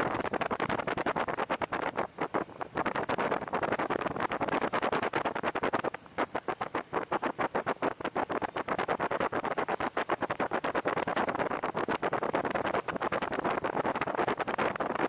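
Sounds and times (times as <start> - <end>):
boat rushing noise fluttering: 0.0 - 15.0.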